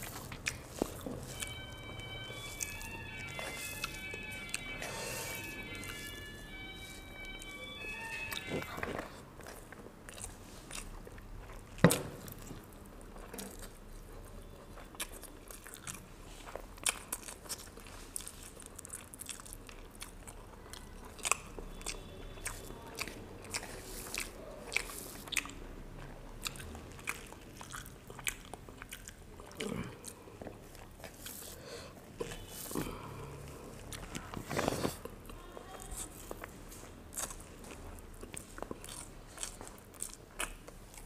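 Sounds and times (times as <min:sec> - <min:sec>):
person chewing with crunches: 0:00.0 - 0:41.0.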